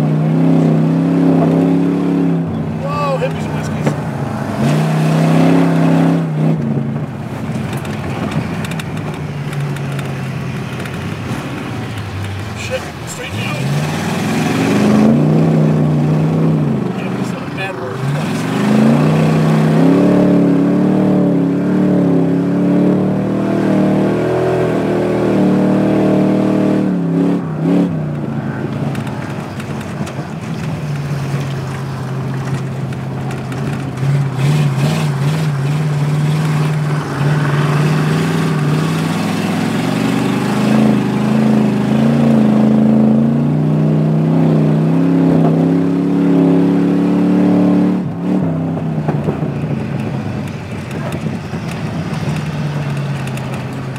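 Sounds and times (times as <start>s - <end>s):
car engine revving hard: 0.0s - 10.1s, 12.5s - 30.1s, 31.0s - 53.9s.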